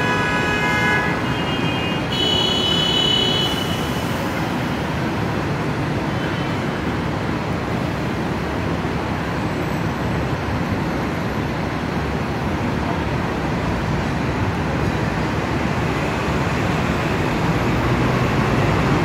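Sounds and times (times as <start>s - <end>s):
buses and cars passing: 0.0s - 19.0s.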